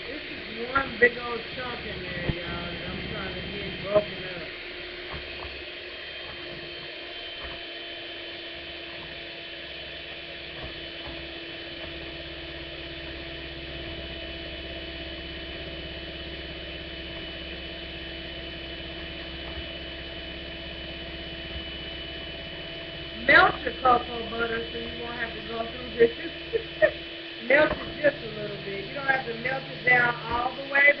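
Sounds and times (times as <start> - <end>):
electric hand mixer whirring: 0.0 - 31.0.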